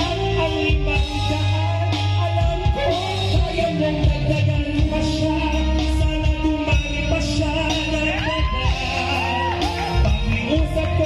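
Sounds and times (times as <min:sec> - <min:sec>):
bass guitar: 0:00.0 - 0:11.0
electric guitar: 0:00.0 - 0:11.0
person singing into microphone: 0:00.0 - 0:11.0
steady drum beat: 0:00.0 - 0:11.0.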